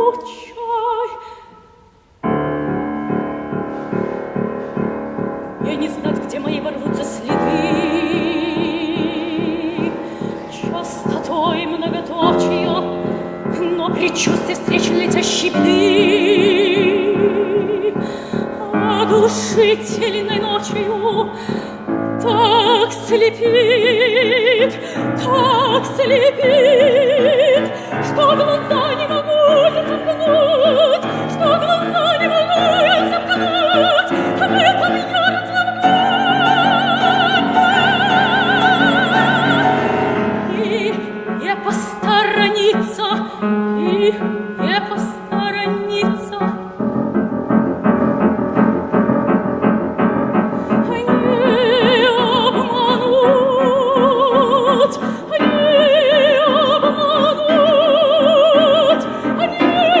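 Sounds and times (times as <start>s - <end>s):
operatic soprano singing: 0.0s - 2.4s, 5.4s - 47.0s, 50.6s - 60.0s
piano accompaniment: 2.2s - 60.0s.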